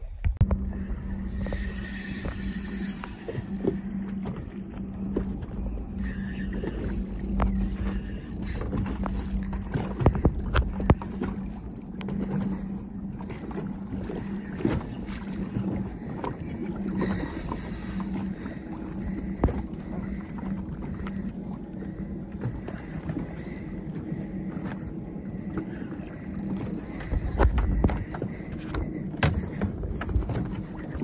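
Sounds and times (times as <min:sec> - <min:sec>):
steady low hum: 0:00.0 - 0:31.0
water lapping against boat hull: 0:00.0 - 0:31.0.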